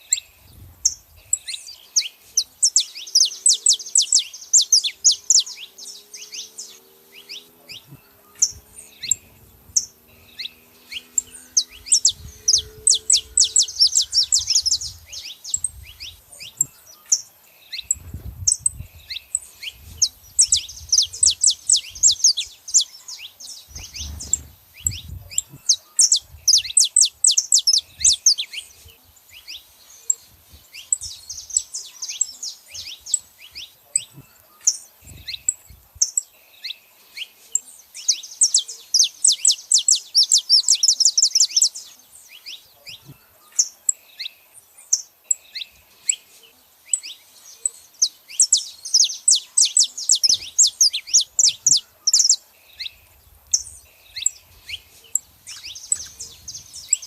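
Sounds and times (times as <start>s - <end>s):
finches chirping: 0.0s - 57.0s.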